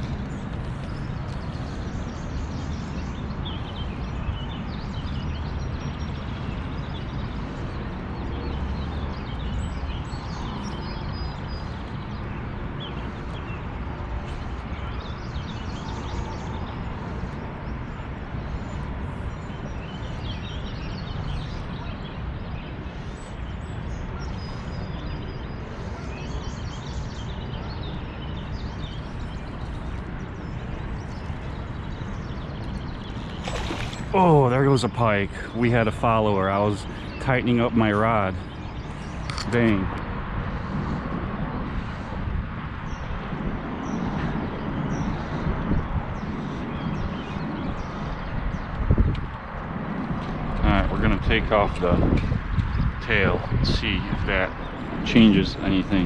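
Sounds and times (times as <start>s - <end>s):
songbirds chirping: 0.0s - 56.0s
steady rushing outdoor noise: 0.0s - 56.0s.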